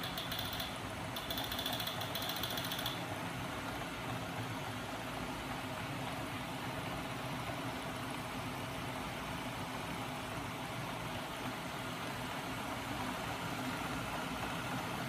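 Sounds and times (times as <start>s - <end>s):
machine whirring and humming: 0.0s - 15.0s.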